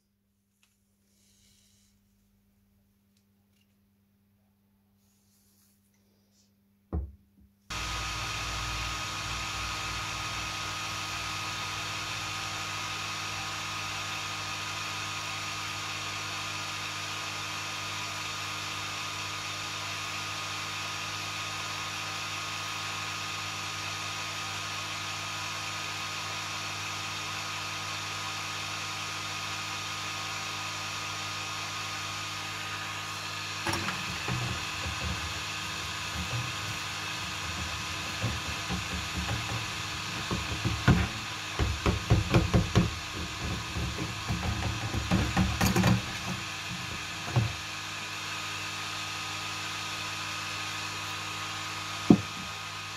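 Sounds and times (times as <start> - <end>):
heat gun blowing: 7.7 - 52.9.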